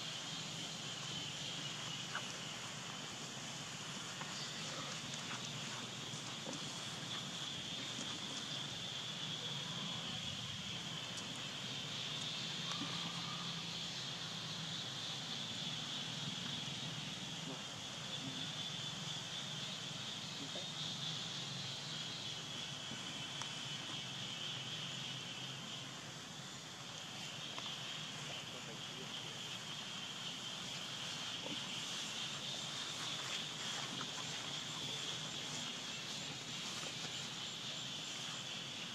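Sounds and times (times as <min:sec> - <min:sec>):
faint outdoor ambience: 0:00.0 - 0:38.9
insects droning: 0:00.0 - 0:38.9.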